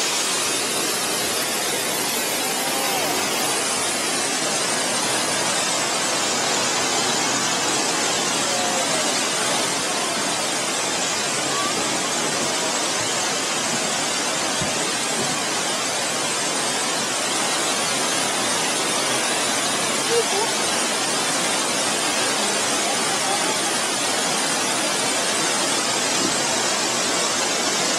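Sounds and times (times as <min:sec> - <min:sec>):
waterfall roar: 0:00.0 - 0:27.9.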